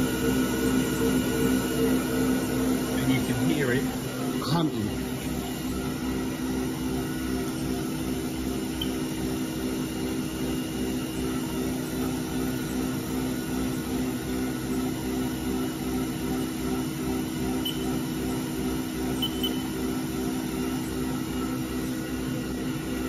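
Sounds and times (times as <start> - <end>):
milling machine spindle humming: 0.0 - 23.0.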